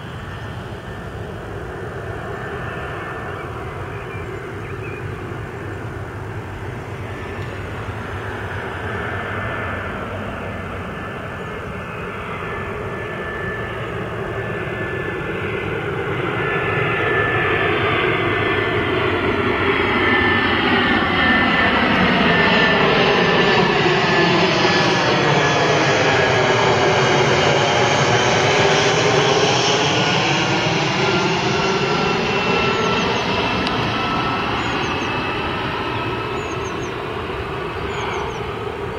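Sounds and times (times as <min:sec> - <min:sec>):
jet airliner passing overhead: 0:00.0 - 0:38.9.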